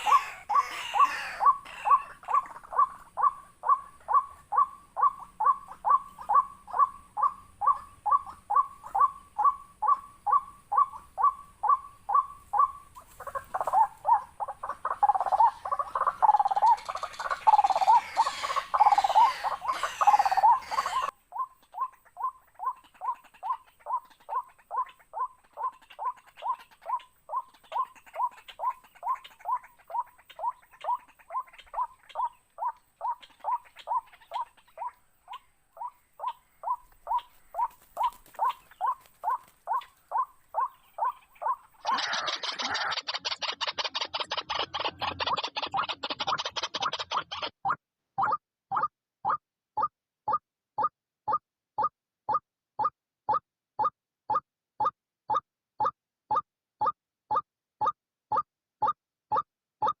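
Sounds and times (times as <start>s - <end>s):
waterhen calls: 0.0s - 49.4s.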